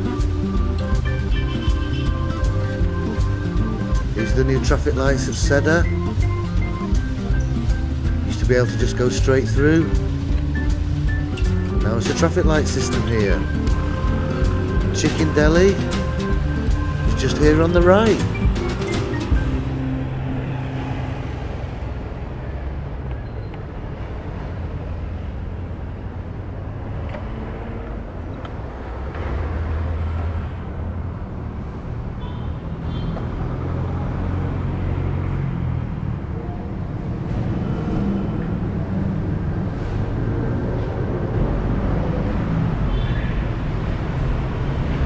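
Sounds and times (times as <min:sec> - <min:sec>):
road and traffic noise: 0:00.0 - 0:45.0.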